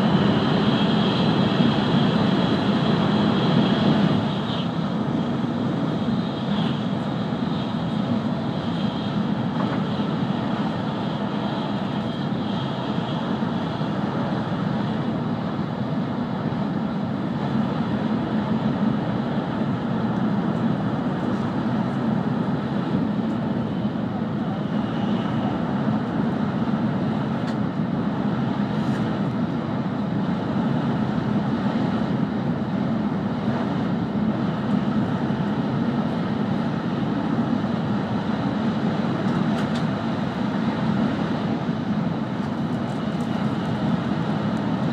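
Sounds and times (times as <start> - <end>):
train interior low rumble: 0.0 - 44.9.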